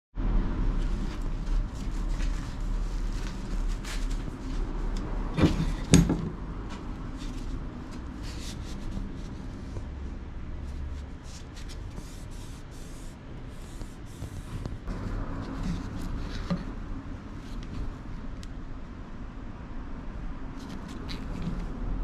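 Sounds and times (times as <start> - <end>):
scraping and rustling handling: 0.8 - 10.0, 10.6 - 18.4, 20.6 - 21.8.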